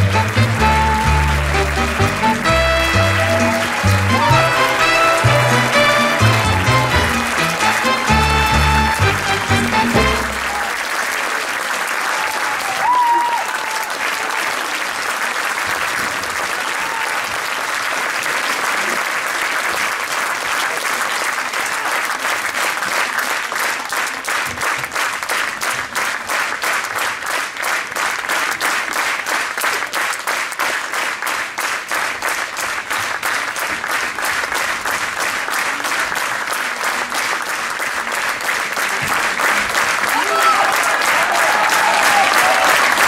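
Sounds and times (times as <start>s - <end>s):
audience applauding: 0.0s - 43.0s.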